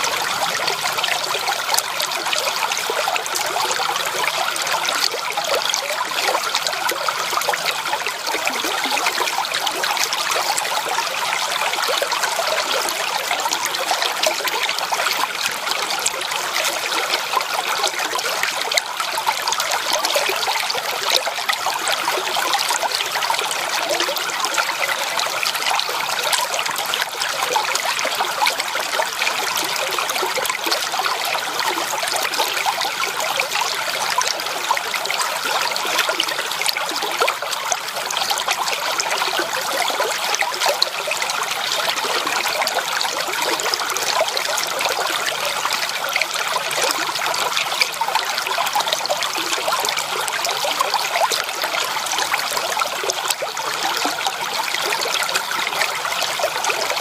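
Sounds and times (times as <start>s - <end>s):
creek water trickling over stones: 0.0s - 57.0s.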